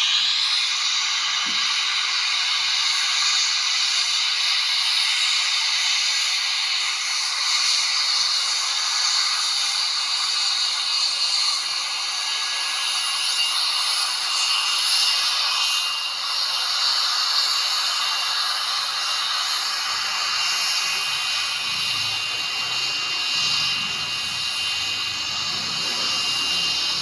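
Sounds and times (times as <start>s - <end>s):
jet engines running while taxiing: 0.0s - 27.0s.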